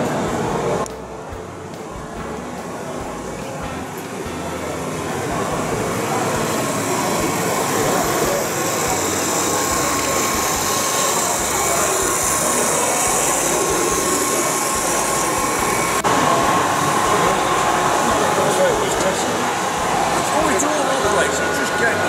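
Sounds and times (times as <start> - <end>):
model train running: 0.0 - 22.0.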